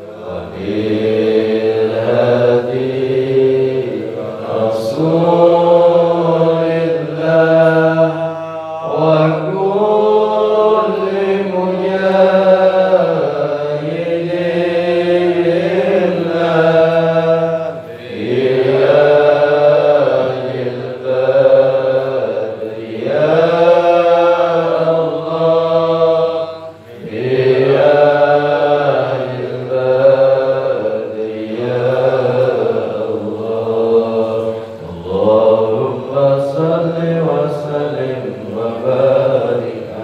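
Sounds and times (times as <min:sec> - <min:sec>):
group chanting in unison: 0:00.0 - 0:40.0.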